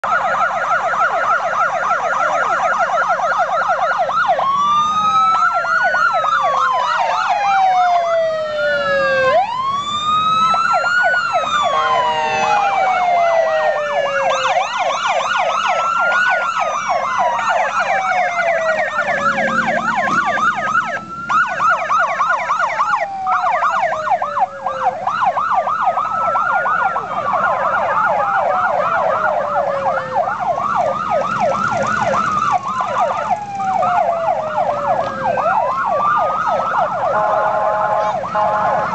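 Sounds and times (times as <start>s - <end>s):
police sirens yelping and wailing: 0.0s - 38.9s.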